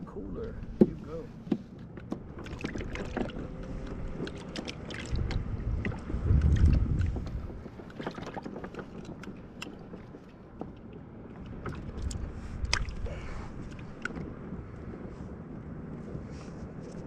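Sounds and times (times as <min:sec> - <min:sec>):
low steady rumble: 0:00.0 - 0:17.0
fishing gear clicking on kayak deck: 0:00.6 - 0:14.4.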